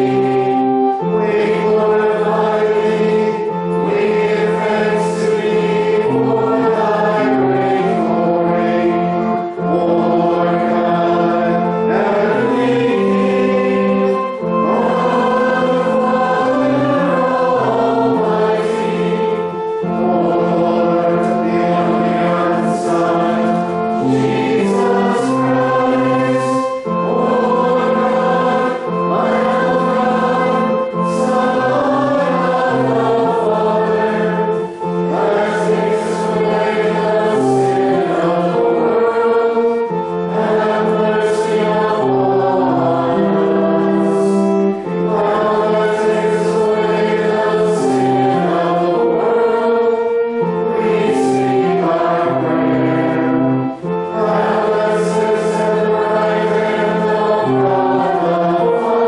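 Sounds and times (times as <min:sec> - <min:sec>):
congregation singing a hymn: 0:00.0 - 0:59.0
held instrumental chords: 0:00.0 - 0:59.0.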